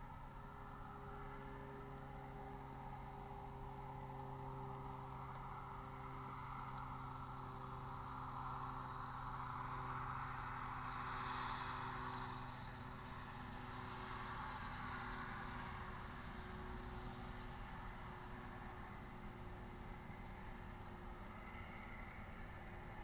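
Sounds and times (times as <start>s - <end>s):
distant vehicle noise: 0.0s - 23.0s
steady low hum: 0.0s - 23.0s.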